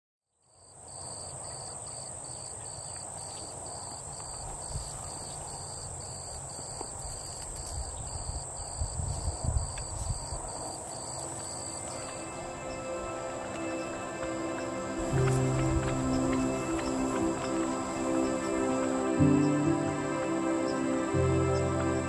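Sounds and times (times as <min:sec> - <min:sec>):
cricket chirping: 0:00.3 - 0:22.0
insects droning: 0:00.4 - 0:22.0.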